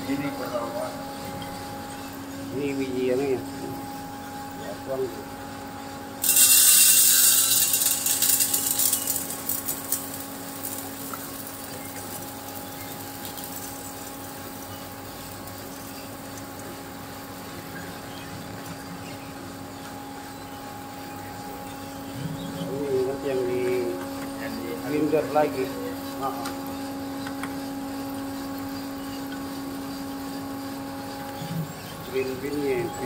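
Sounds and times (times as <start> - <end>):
gritty grinding of coffee beans: 0.0 - 17.2, 19.7 - 33.0
coffee grinder motor hum: 0.0 - 33.0.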